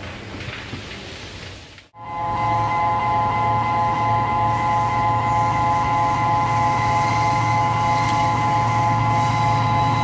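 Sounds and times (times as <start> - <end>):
level crossing alarm: 2.0 - 10.0
low hum: 2.0 - 10.0.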